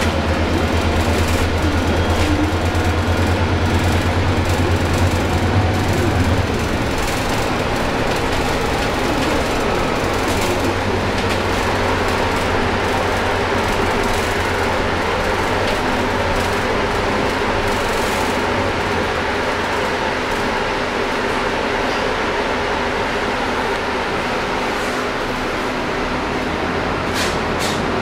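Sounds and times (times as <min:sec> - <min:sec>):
diesel bus engine drone: 0:00.0 - 0:28.0.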